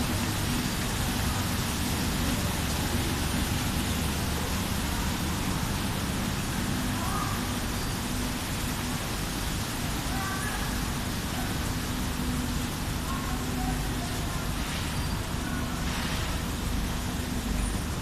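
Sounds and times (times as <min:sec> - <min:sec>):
washing machine mechanical hum: 0:00.0 - 0:18.0
water rushing: 0:00.0 - 0:18.0.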